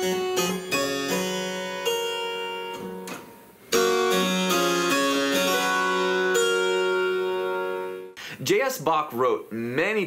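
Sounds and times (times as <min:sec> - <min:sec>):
harpsichord playing: 0:00.0 - 0:08.2.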